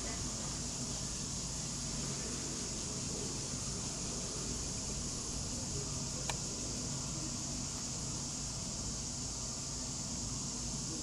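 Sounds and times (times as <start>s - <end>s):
high-pitched insect chorus: 0.0s - 11.0s
low steady hum: 0.0s - 11.0s.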